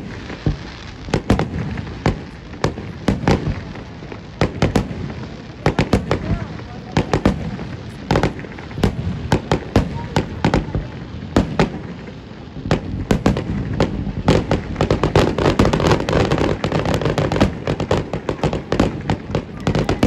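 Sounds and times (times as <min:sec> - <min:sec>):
fireworks bangs: 0:00.0 - 0:20.0
fireworks crackles: 0:00.0 - 0:20.0.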